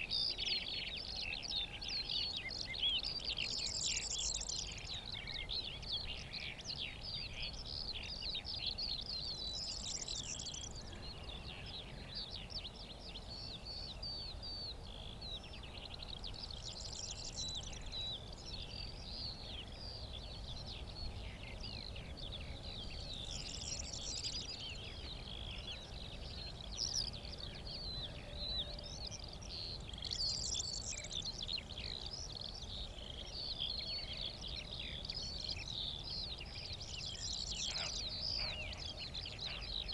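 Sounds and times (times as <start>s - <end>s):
skylark twittering song: 0.0s - 39.9s.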